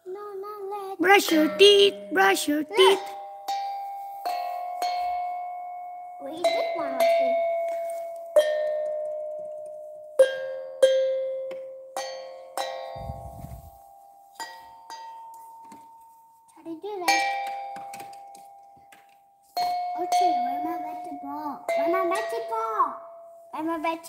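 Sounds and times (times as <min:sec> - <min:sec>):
bell-like metallic dings: 0:01.4 - 0:18.6, 0:19.6 - 0:23.5.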